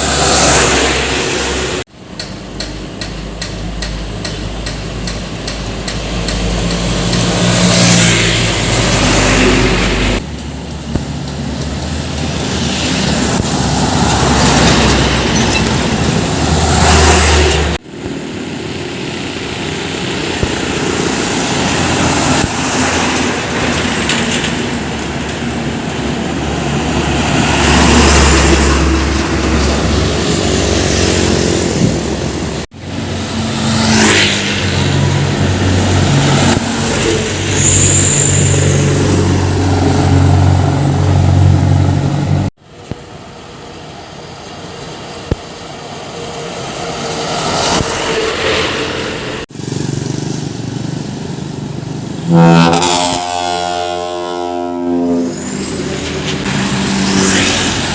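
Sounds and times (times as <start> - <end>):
heavy trucks passing: 0.0 - 57.9.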